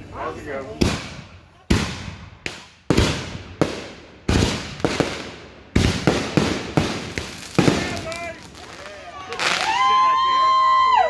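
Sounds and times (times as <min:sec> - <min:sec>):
fireworks banging: 0:00.8 - 0:10.3.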